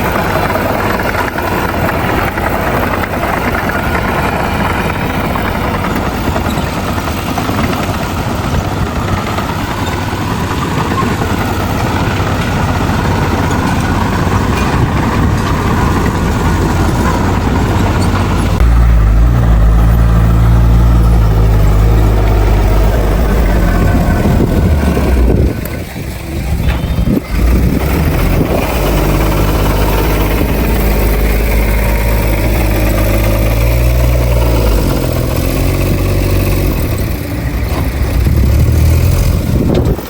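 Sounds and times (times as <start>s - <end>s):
diesel earthmoving machinery: 0.0s - 40.0s
low engine drone: 0.0s - 40.0s.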